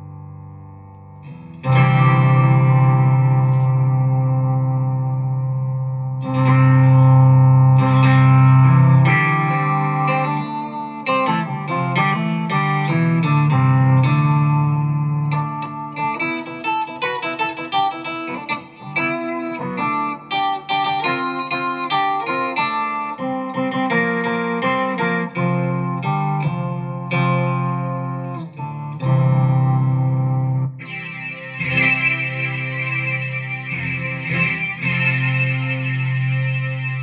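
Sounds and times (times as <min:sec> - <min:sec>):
synth-voiced electric guitar notes: 0:00.0 - 0:37.0.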